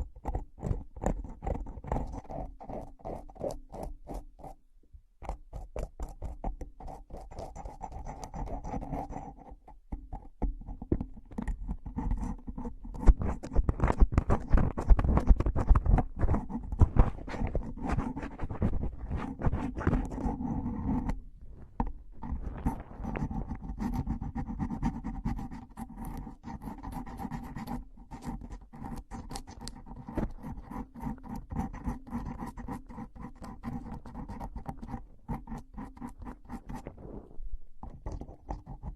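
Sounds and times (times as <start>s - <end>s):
scratching and tapping: 0.0s - 4.6s, 5.2s - 37.2s, 37.8s - 38.9s.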